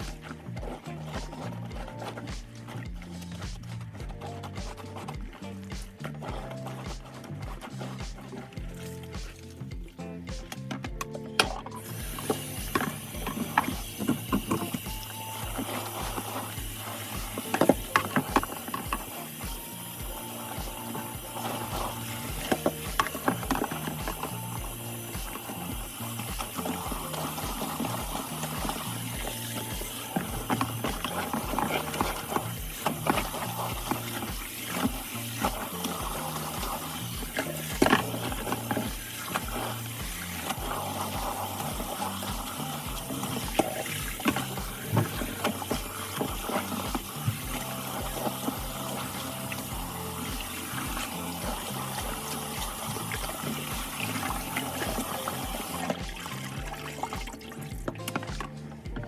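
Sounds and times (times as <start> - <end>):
background music with bass beat: 0.0 - 59.0
tap water running: 0.0 - 59.0
wet scraping and splashing: 0.0 - 59.0.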